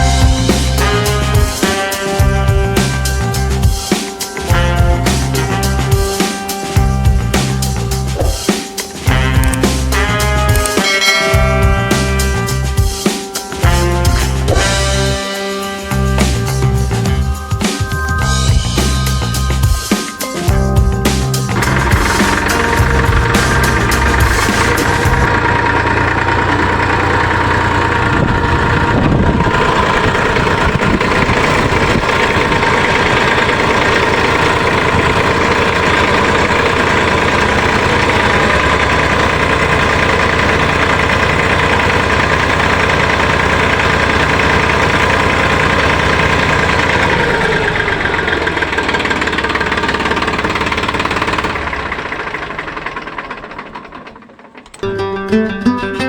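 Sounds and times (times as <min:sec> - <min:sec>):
tractor engine running: 0:00.0 - 0:12.9, 0:13.6 - 0:19.8, 0:20.5 - 0:54.9.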